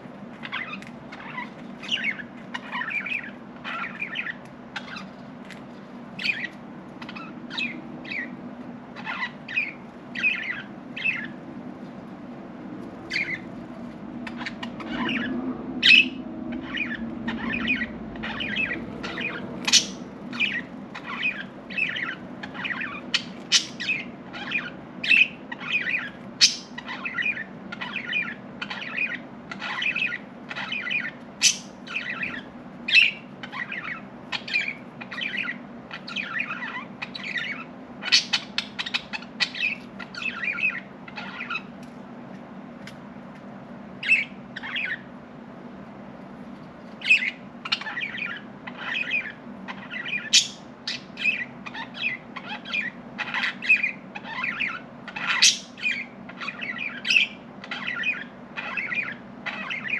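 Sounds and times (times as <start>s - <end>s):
steady low hum: 0.0s - 59.9s
budgerigars chirping: 0.3s - 11.5s, 13.0s - 13.5s, 14.2s - 41.8s, 44.0s - 45.1s, 47.0s - 59.9s.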